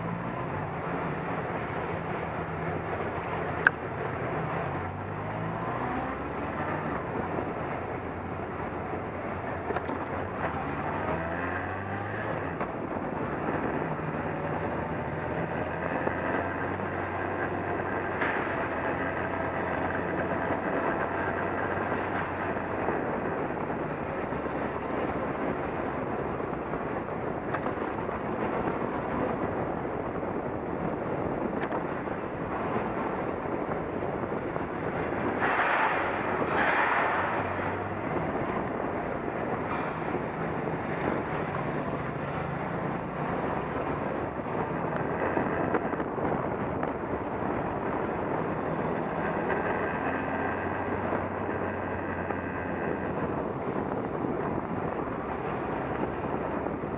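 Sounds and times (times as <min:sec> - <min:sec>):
motorcycle engine hum: 0:00.0 - 0:56.9
wind rush on microphone: 0:00.0 - 0:56.9.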